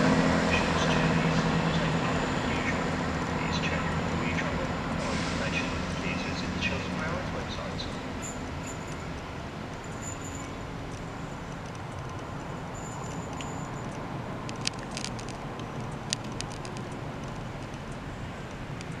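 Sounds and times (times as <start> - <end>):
diesel train rumble: 0.0 - 19.0.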